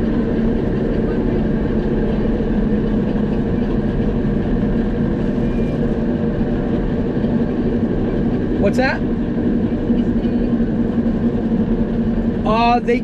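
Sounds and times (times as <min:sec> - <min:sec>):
harvester engine humming: 0:00.0 - 0:13.0.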